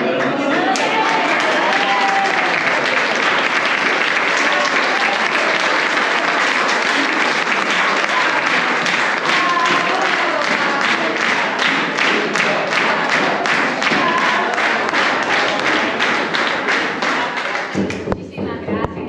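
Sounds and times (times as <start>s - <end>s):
audience applauding: 0.0s - 18.0s
voices: 0.0s - 19.0s.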